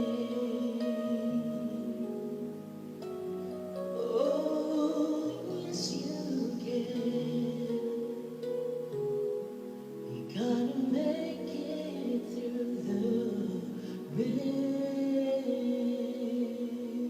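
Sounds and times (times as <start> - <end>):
musical accompaniment: 0.0 - 17.0
woman singing wordless notes: 0.0 - 17.0.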